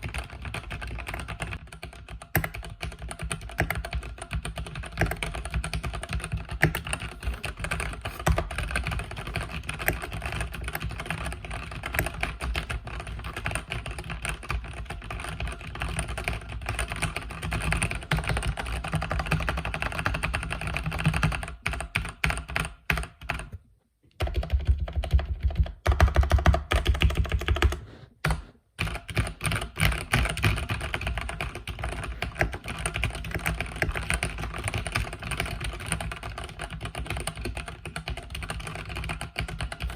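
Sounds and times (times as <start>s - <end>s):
mechanical keyboard typing: 0.0s - 23.5s, 24.2s - 39.9s.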